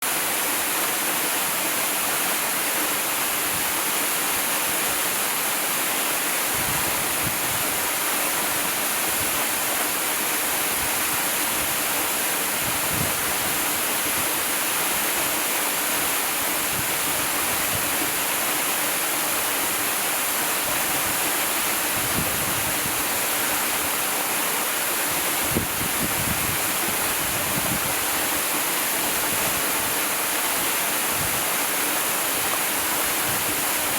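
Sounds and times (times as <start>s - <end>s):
waterfall rushing and splashing: 0.0s - 33.9s.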